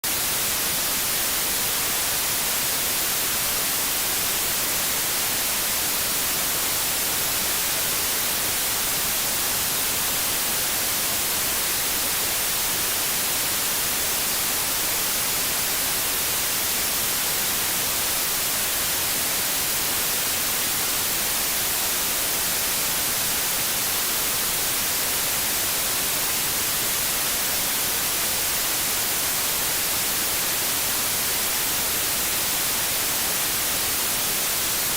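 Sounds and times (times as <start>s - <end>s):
television static hiss: 0.0s - 34.9s.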